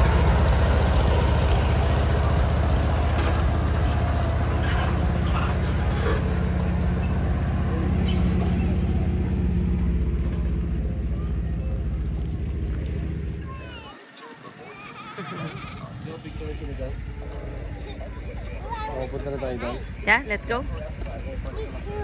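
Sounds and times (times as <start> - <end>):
tractor engine running: 0.0 - 14.7, 15.3 - 22.0.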